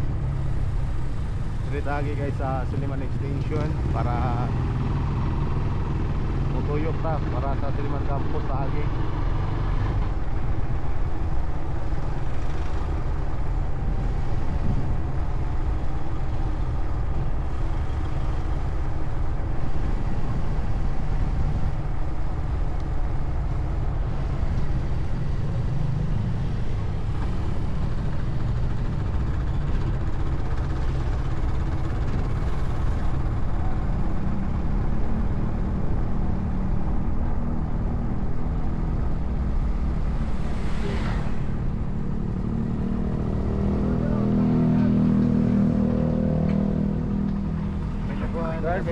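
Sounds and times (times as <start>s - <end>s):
wind and road noise: 0.0s - 48.9s
motorcycle engine: 8.2s - 48.9s.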